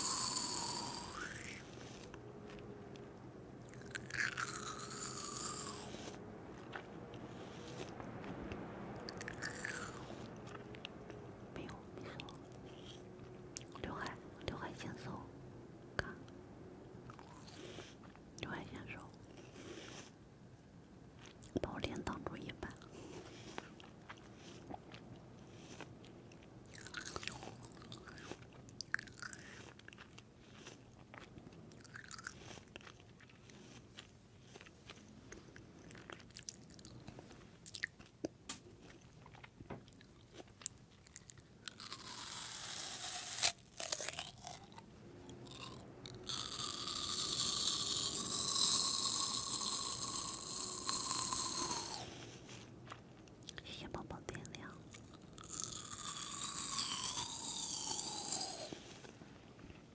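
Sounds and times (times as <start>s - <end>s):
chewing food: 0.0s - 14.5s, 17.0s - 20.2s, 21.0s - 59.9s.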